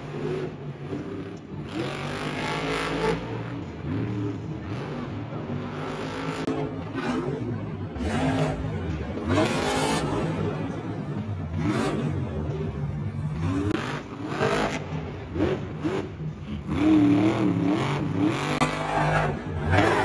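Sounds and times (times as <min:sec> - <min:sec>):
stadium crowd noise: 0:00.0 - 0:20.0
truck engine revving: 0:00.0 - 0:20.0.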